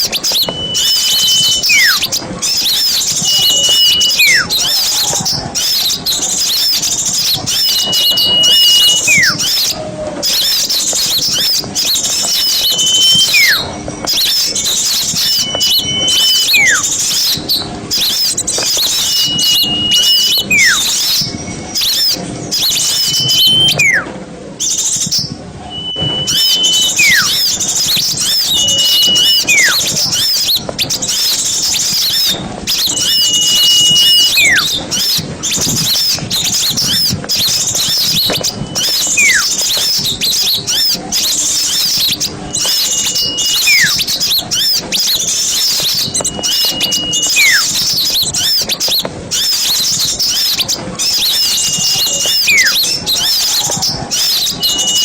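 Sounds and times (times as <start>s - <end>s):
high bird whistle sliding down: 0.0s - 24.1s, 24.7s - 55.0s
songbirds chirping and trilling: 0.0s - 55.0s.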